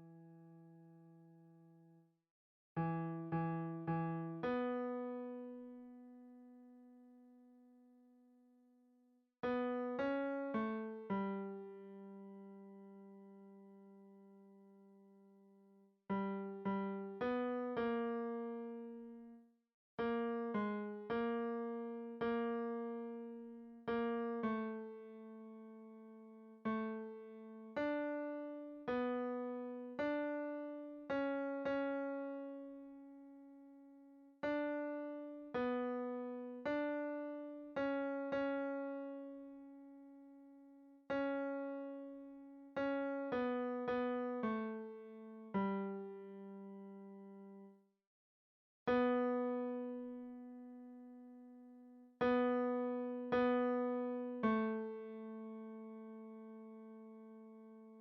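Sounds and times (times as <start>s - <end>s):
piano single melody line: 2.8s - 7.4s, 9.4s - 15.2s, 16.1s - 19.4s, 20.0s - 47.7s, 48.9s - 58.0s.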